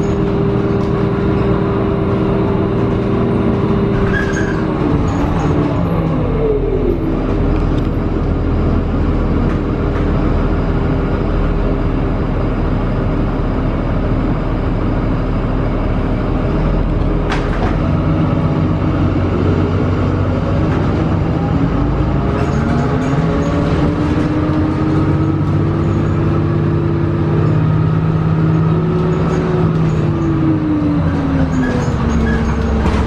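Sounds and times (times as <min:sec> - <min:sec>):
bus drivetrain whine: 0:00.0 - 0:33.0.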